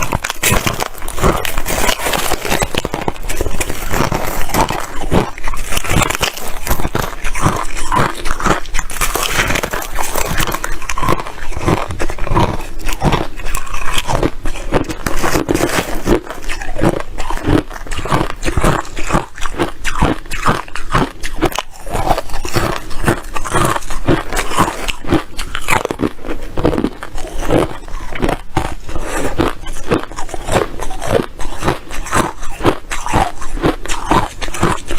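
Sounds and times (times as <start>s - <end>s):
ice chips crunching while chewed: 0.0s - 34.9s.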